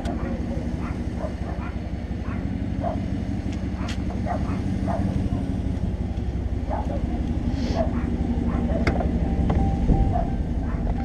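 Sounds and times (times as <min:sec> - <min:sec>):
pickup engine and road drone: 0:00.0 - 0:11.0.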